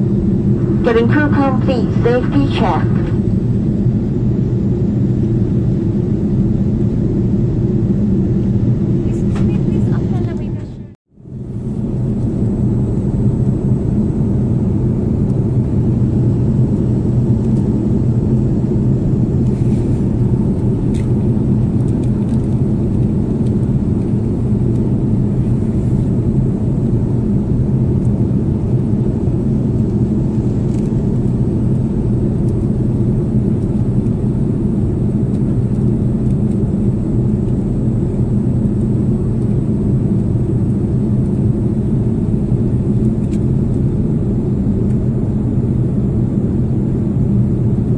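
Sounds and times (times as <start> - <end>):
airliner cabin roar: 0.0 - 47.9.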